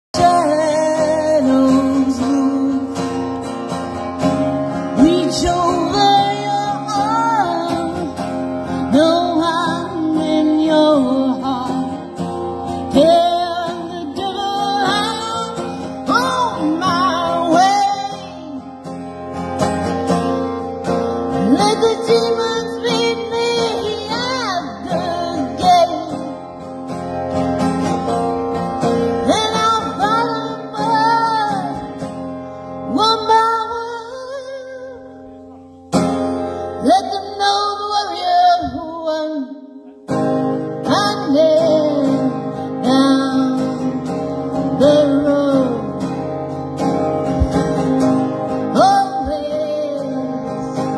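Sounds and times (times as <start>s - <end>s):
woman singing: 0.1s - 3.3s, 4.4s - 18.8s, 21.2s - 26.6s, 29.1s - 35.2s, 36.8s - 39.8s, 40.5s - 50.9s
strummed acoustic guitar: 0.2s - 39.2s, 39.8s - 50.9s.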